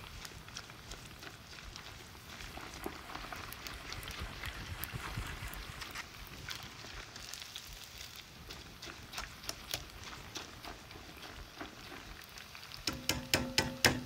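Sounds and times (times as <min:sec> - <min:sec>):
rice sizzling in hot oil: 0:00.0 - 0:14.0.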